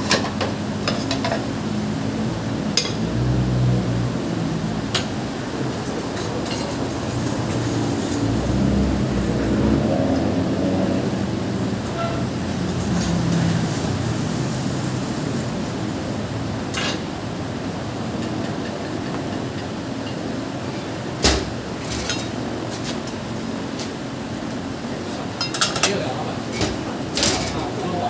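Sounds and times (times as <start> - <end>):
kitchen background noise: 0.0 - 3.8, 4.6 - 11.2, 11.8 - 28.0.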